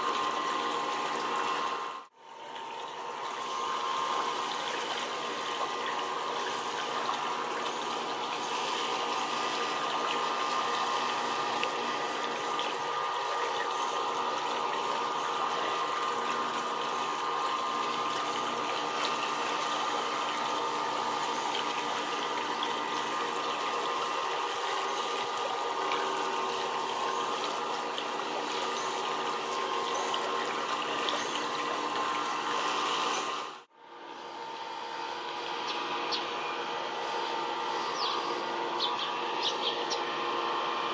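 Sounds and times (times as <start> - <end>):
running water rushing: 0.0 - 33.7.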